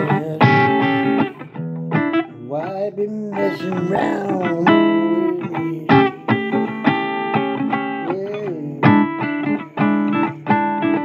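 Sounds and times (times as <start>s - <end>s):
blues guitar: 0.0s - 11.0s
person singing: 0.0s - 11.0s.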